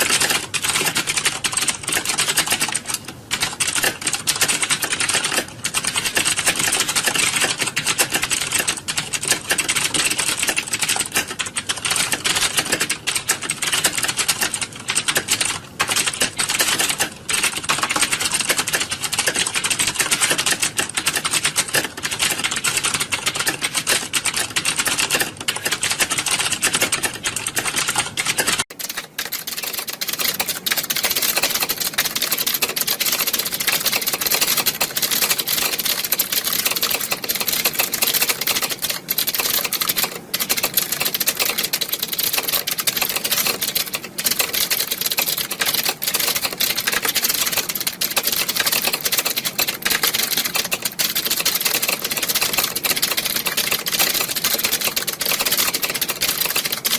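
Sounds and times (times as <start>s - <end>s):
keyboards clattering: 0.0s - 56.9s.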